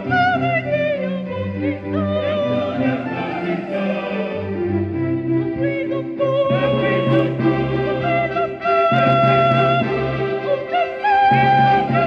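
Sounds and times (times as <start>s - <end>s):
mixed choir singing: 1.3s - 12.0s.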